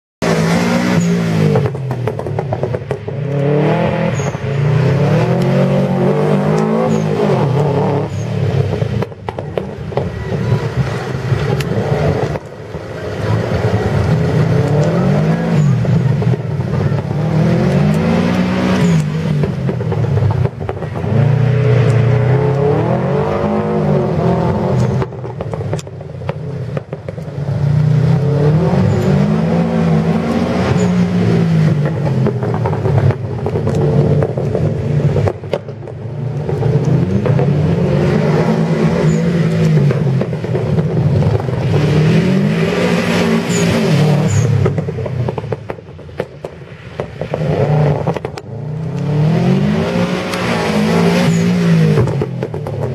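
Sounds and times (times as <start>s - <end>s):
rally car engine revving: 0.2s - 46.4s, 47.0s - 52.9s.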